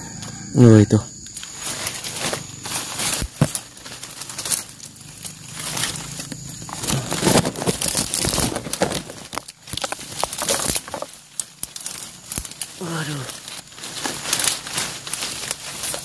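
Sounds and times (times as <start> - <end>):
leaves and twigs rustling: 0.0 - 16.0.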